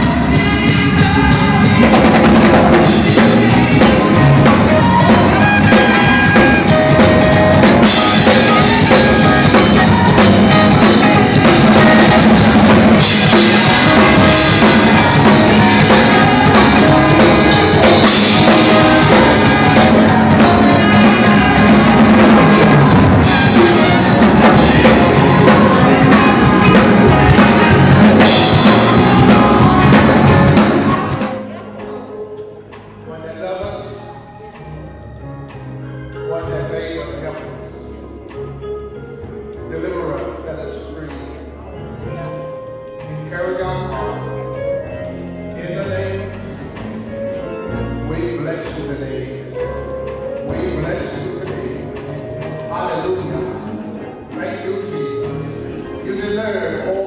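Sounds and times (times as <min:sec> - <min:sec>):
gospel band music: 0:00.0 - 0:57.0.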